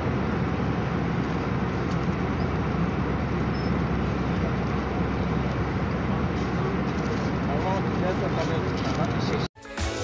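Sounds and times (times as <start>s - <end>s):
airliner cabin rumble: 0.0s - 9.5s.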